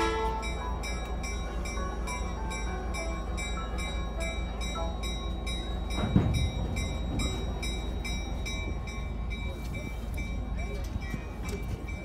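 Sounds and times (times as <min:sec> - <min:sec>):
locomotive bell ringing: 0:00.0 - 0:12.0
train rumbling: 0:00.0 - 0:12.0.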